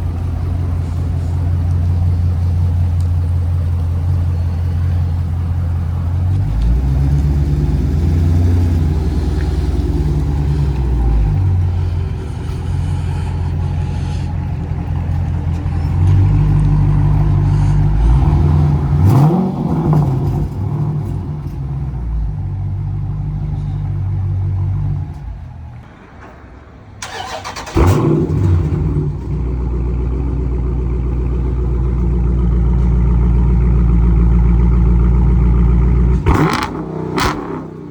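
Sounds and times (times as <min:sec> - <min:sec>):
loud car engine revving: 0:00.0 - 0:22.0, 0:27.0 - 0:32.4, 0:33.4 - 0:37.9.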